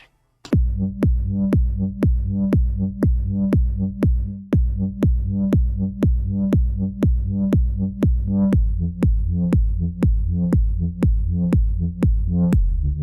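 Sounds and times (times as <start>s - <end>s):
electronic music with beat: 0.0s - 13.0s.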